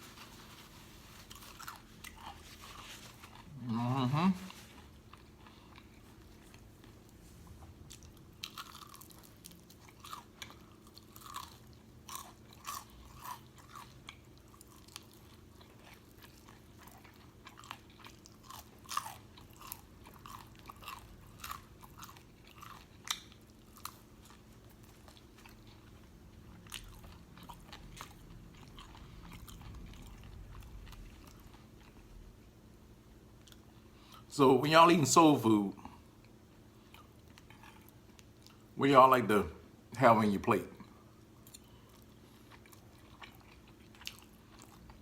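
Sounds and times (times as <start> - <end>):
chewing crunchy food: 0.0 - 32.4, 33.3 - 34.3, 35.8 - 38.8, 40.8 - 45.0
faint steady hum: 0.0 - 45.0.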